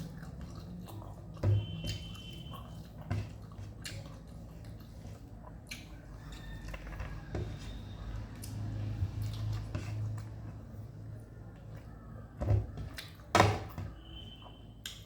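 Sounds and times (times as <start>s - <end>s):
person chewing: 0.0s - 12.1s.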